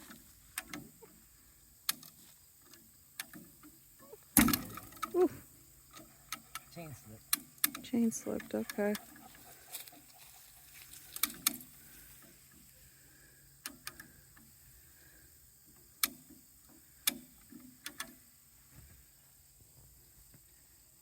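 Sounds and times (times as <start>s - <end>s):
tractor idling: 0.0s - 18.6s.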